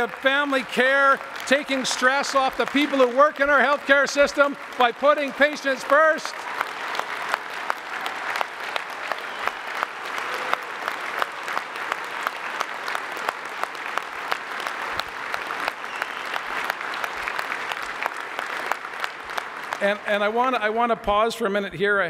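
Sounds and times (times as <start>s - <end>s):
large crowd applauding: 0.0s - 21.0s.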